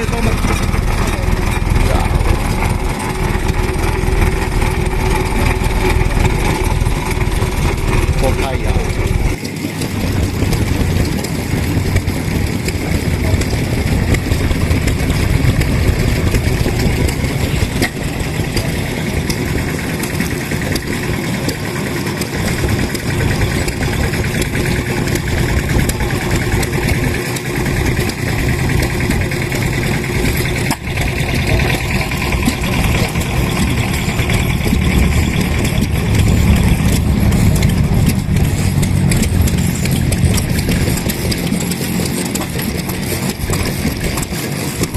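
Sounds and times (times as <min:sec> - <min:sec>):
engine running with fast beat: 0:00.0 - 0:44.9.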